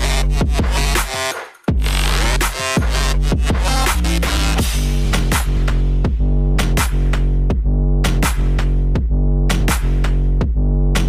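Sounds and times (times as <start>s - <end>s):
electronic music with deep bass: 0.0s - 11.0s.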